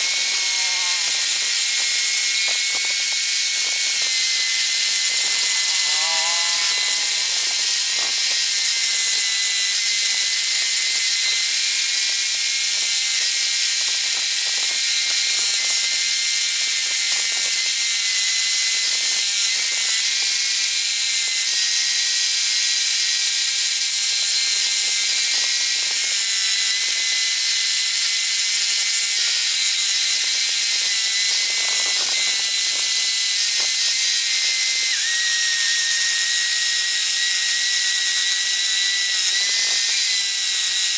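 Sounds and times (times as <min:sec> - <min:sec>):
scroll saw whining through wood: 0:00.0 - 0:40.9.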